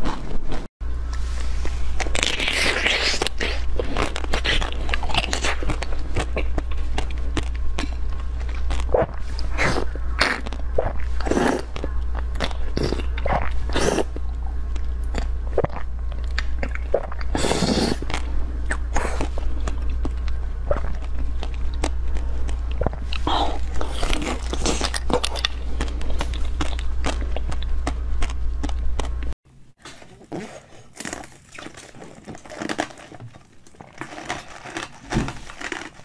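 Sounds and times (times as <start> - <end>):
steady low hum: 0.0 - 36.0
biting and chewing jelly: 1.9 - 36.0.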